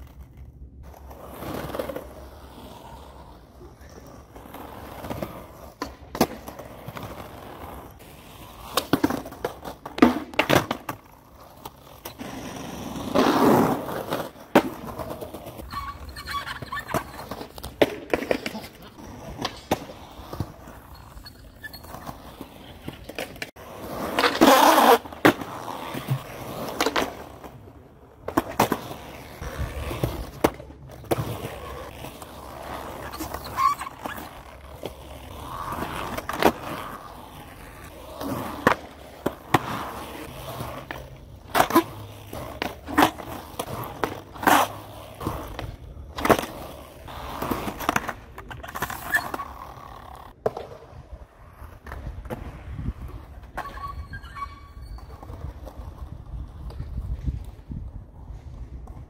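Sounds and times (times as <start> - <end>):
skateboard clacks: 0.0 - 20.8, 21.8 - 54.0
skateboard wheels rolling on concrete: 0.0 - 59.0.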